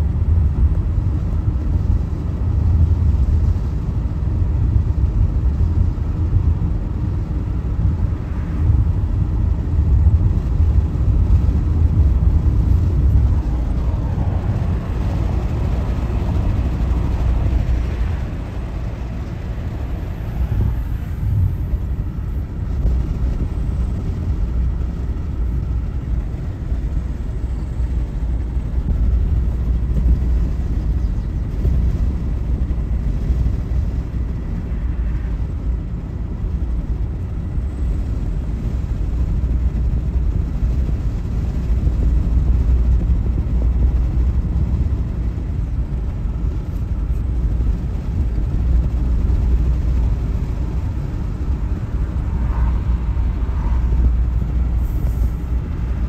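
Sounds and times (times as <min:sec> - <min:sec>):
tyre and road noise: 0:00.0 - 0:56.0
car engine: 0:00.1 - 0:33.9, 0:34.6 - 0:56.0.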